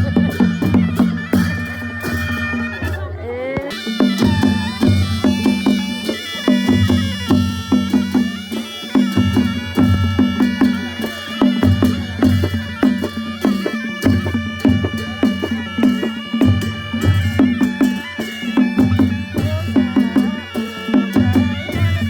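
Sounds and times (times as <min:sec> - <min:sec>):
drum strokes: 0:00.0 - 0:03.0, 0:03.6 - 0:22.0.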